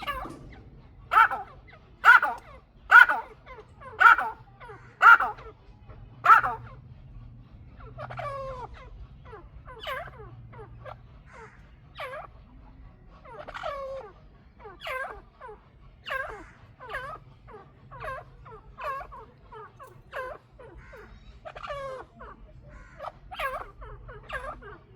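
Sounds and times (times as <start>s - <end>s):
partridges calling: 0.0s - 5.5s, 6.2s - 6.7s, 7.8s - 24.9s.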